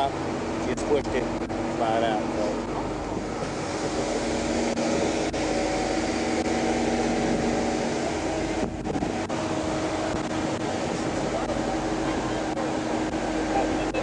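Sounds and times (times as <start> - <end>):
car engine idling: 0.0 - 14.0
ventilation fan whirring: 0.0 - 14.0.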